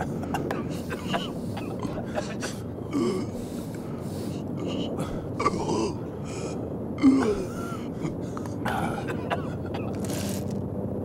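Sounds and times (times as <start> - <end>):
man choking and gasping: 0.0 - 10.4.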